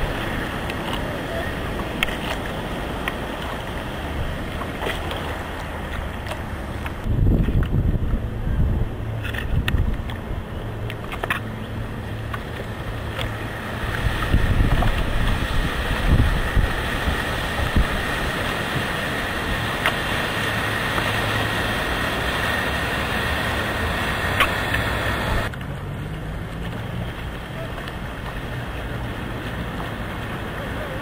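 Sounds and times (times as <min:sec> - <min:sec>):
wind buffeting microphone: 0:00.0 - 0:25.5
low even hum: 0:00.0 - 0:31.0
surf washing: 0:00.0 - 0:31.0.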